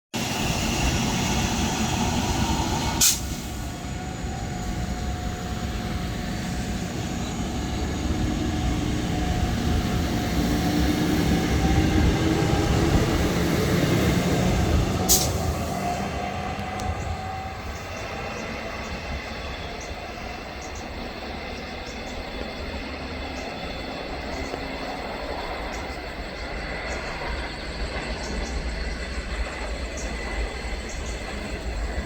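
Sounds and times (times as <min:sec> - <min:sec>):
train wheels rumbling: 0:00.2 - 0:32.0.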